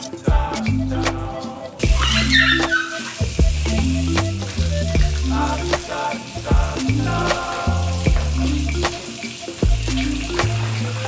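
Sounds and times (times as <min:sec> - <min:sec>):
drum beat: 0:00.0 - 0:11.0
bass line: 0:00.3 - 0:11.0.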